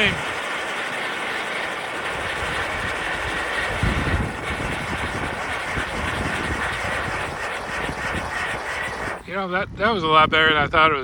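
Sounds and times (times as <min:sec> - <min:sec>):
wind buffeting microphone: 0:00.0 - 0:00.4, 0:02.0 - 0:11.0
firework fountain hissing: 0:00.0 - 0:09.5.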